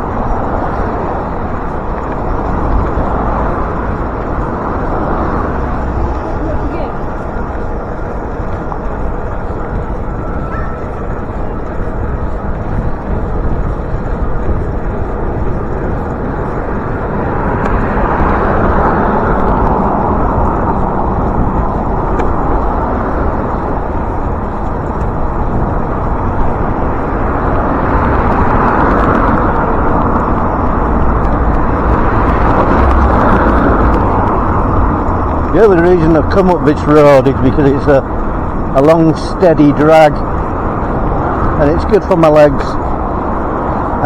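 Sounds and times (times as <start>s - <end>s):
road traffic passing: 0.0s - 44.0s
wind rumbling on microphone: 0.0s - 44.0s.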